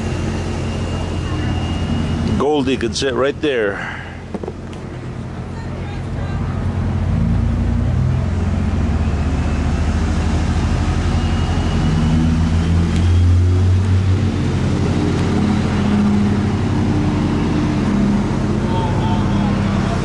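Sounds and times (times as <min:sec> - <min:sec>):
large engine droning: 0:00.0 - 0:20.0.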